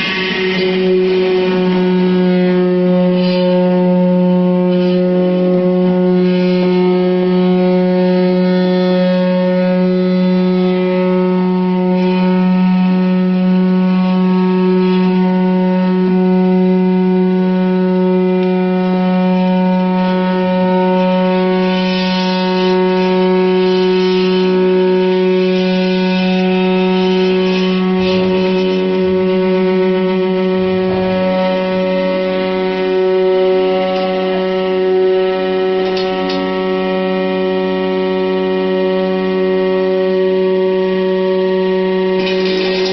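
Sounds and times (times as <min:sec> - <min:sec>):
concrete vibrator humming: 0:00.0 - 0:42.9.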